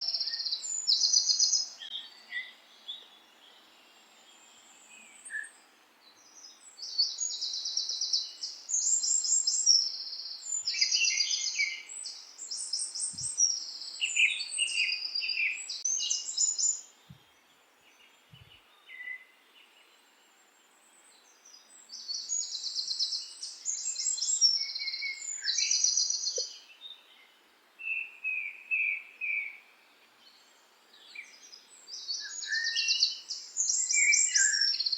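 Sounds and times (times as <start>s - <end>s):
faint steady hiss: 0.0s - 34.9s
songbirds trilling: 0.0s - 34.9s.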